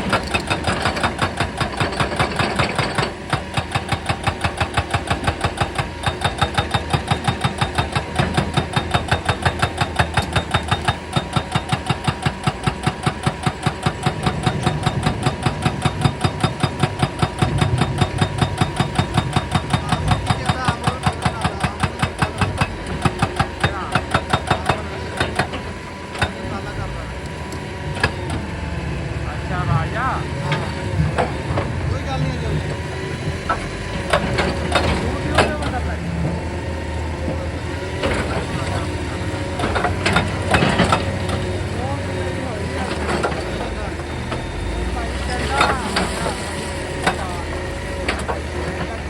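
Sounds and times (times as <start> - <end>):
hydraulic breaker hammering rock: 0.0 - 28.7, 29.5 - 49.0
excavator engine running: 0.0 - 49.0.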